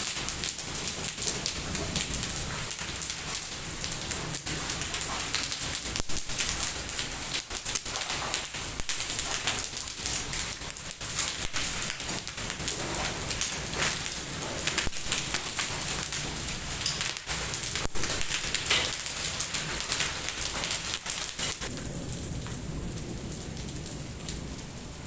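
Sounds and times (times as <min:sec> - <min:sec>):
hailstones striking hard surfaces: 0:00.0 - 0:24.4.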